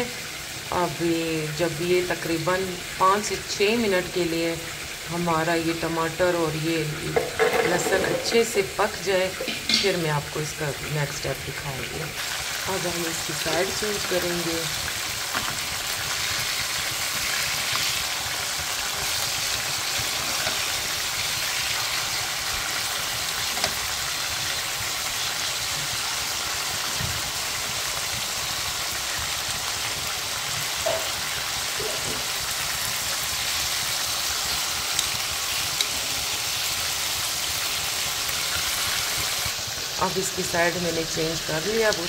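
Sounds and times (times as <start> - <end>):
chicken sizzling in oil: 0.0 - 42.0.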